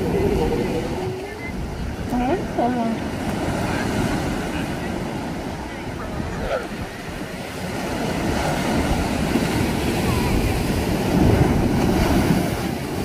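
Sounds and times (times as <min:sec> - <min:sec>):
surf breaking on rocks: 0:00.0 - 0:13.0.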